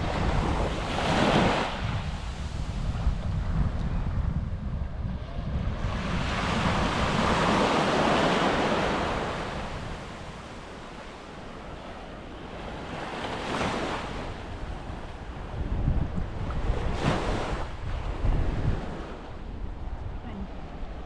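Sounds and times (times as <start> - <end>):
waves breaking on a beach: 0.0 - 21.0
wind buffeting microphone: 0.0 - 21.0.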